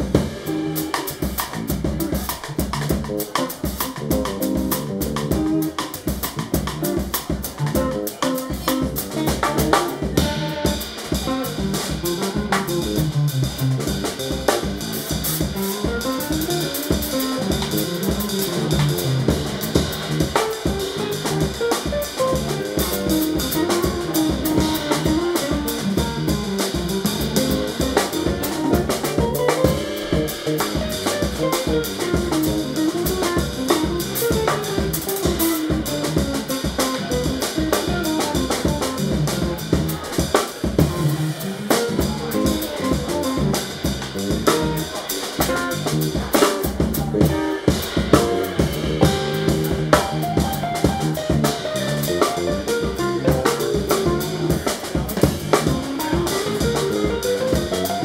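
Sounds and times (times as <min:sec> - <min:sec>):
drum kit: 0:00.0 - 0:58.0
low bass: 0:00.0 - 0:58.0.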